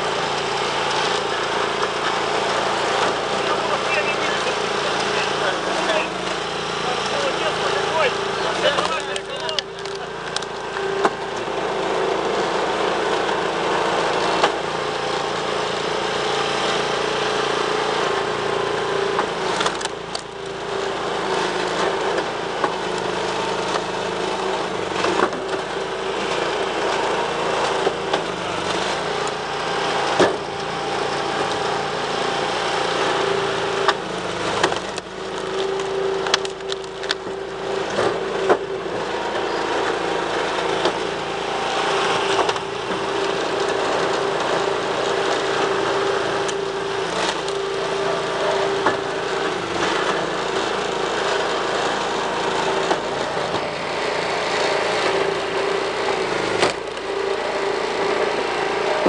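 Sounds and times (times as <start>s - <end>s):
log splitter motor running: 0.0s - 59.0s
wood cracking and splitting: 0.2s - 59.0s.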